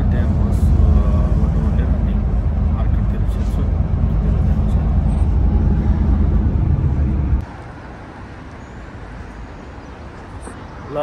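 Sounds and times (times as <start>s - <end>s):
bus engine and road rumble: 0.0s - 11.0s
street traffic noise: 0.0s - 11.0s.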